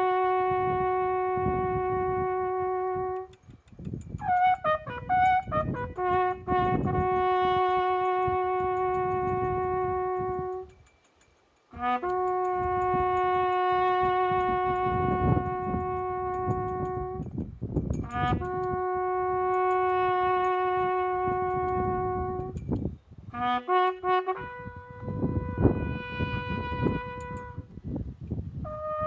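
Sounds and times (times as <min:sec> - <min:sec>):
solo brass instrument: 0:00.0 - 0:03.4, 0:04.2 - 0:10.8, 0:11.7 - 0:27.8, 0:28.6 - 0:29.0.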